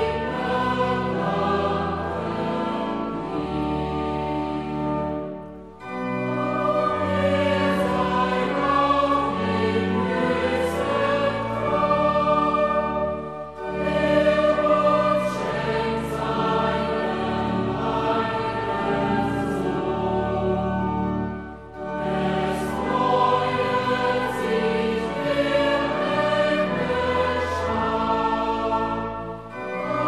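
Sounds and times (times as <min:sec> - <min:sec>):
choir singing sacred music: 0:00.0 - 0:30.0.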